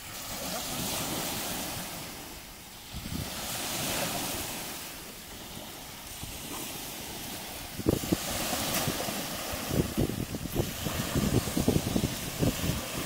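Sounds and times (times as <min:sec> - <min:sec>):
small waves washing onto beach: 0:00.0 - 0:13.0
wind on microphone: 0:00.0 - 0:13.0.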